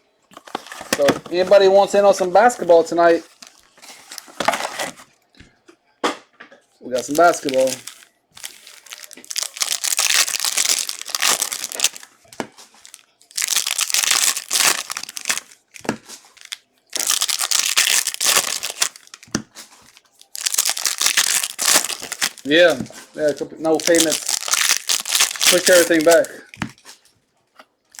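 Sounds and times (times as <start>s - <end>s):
plastic wrappers tearing and crinkling: 0.4s - 2.3s, 3.0s - 5.1s, 7.0s - 27.0s.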